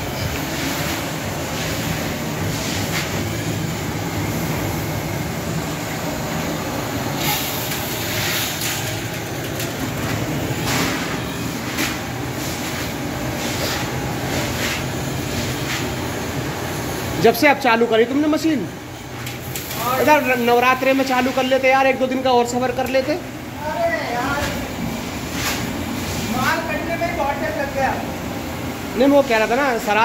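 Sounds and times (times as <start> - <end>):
laundry machinery humming: 0.0 - 30.0.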